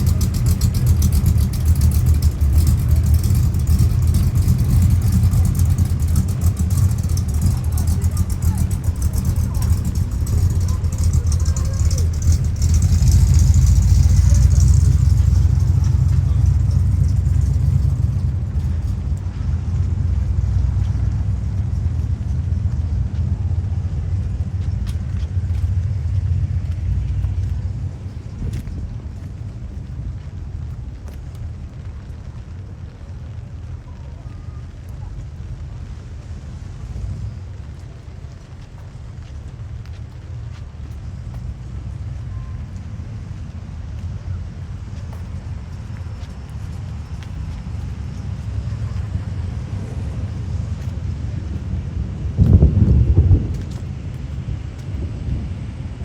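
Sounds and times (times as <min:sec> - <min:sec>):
car engines running: 0:00.0 - 0:56.0.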